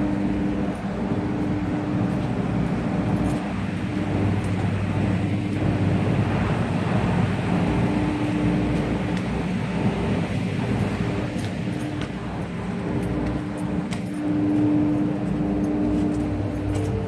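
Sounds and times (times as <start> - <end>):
air conditioner electrical hum: 0.0 - 17.0.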